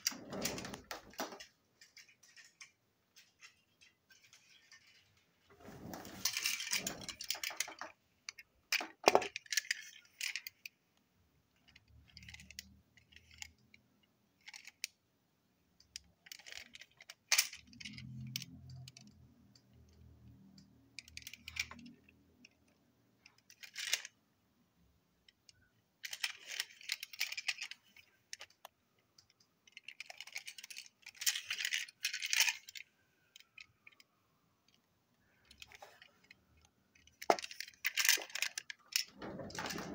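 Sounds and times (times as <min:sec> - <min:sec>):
plastic toy wagons clicking: 0:00.0 - 0:05.2, 0:05.8 - 0:10.8, 0:11.5 - 0:15.0, 0:15.8 - 0:24.2, 0:25.2 - 0:39.9.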